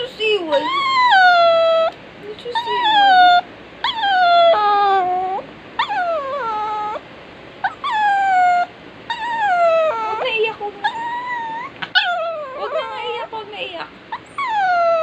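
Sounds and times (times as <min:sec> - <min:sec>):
dog whining: 0:00.5 - 0:13.3, 0:14.1 - 0:15.0.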